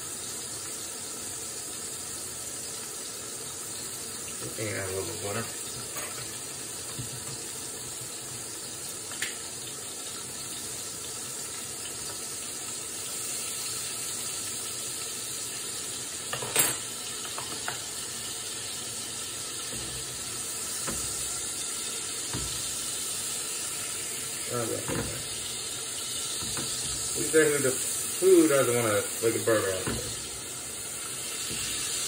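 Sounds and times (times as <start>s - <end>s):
meat sizzling in a frying pan: 0.0s - 32.0s.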